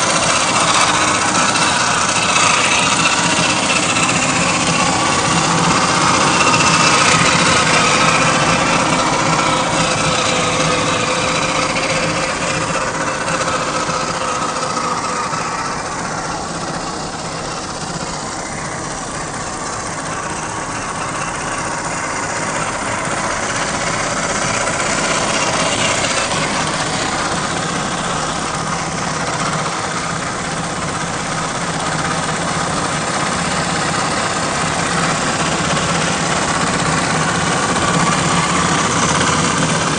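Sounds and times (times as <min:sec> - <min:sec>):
electric motor and gearbox whine: 0:00.0 - 0:39.9.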